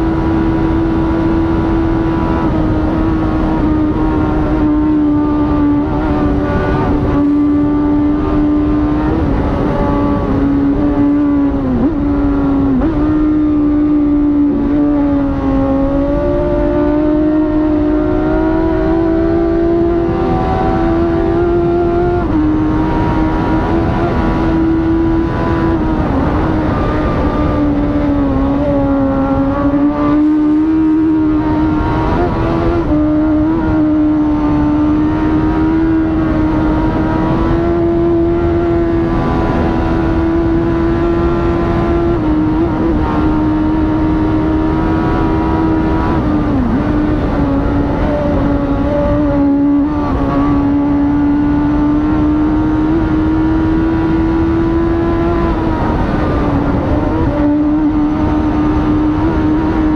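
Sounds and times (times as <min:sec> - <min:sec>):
motorcycle engine at racing revs: 0:00.0 - 0:59.9.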